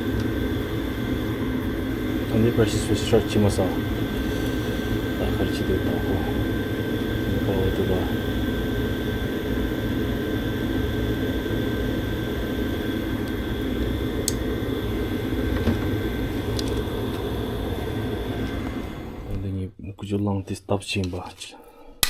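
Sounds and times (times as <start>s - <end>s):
gas furnace whirring: 0.0s - 19.9s.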